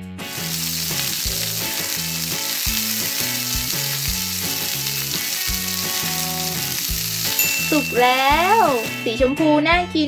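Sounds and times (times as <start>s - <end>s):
food frying sizzle: 0.2s - 9.3s.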